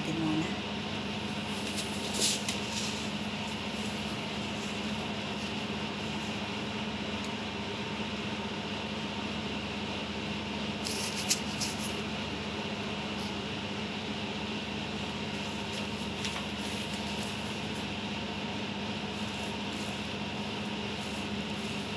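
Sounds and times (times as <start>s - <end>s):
room hum: 0.0s - 21.9s.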